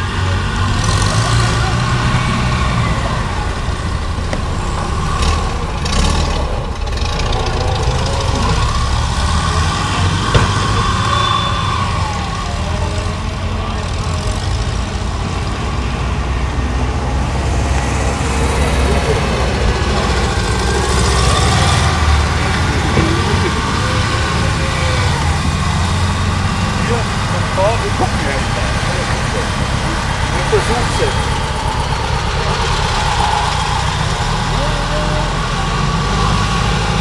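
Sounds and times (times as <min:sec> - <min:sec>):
car engines rumbling: 0:00.0 - 0:37.0.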